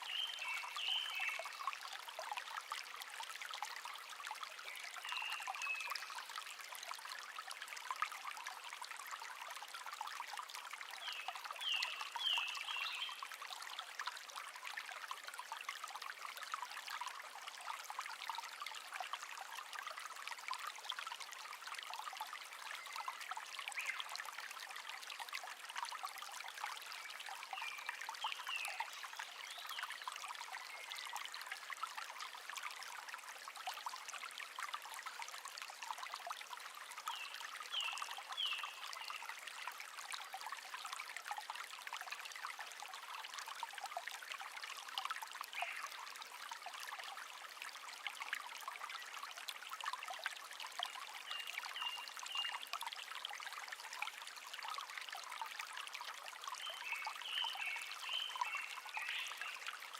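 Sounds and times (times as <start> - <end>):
stream trickling and babbling: 0.0 - 59.9.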